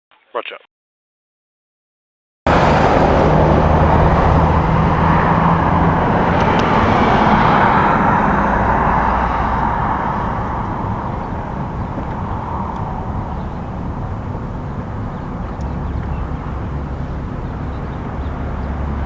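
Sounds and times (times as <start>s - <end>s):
engine hum: 2.5s - 19.0s
road noise from vehicle: 2.5s - 19.0s.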